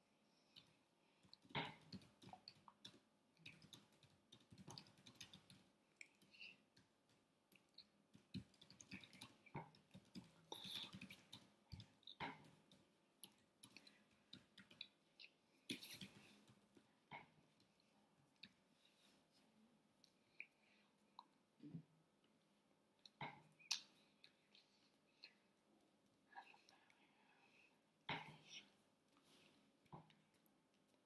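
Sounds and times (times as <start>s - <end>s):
faint clicks and soft taps: 0.4s - 31.0s.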